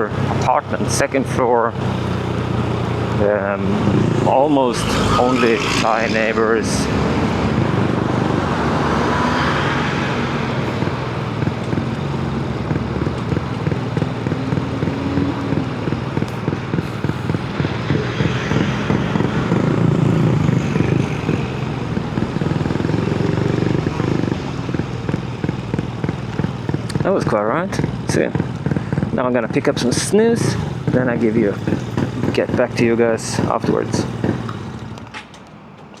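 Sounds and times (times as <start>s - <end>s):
motorcycle engine running: 0.0s - 35.4s.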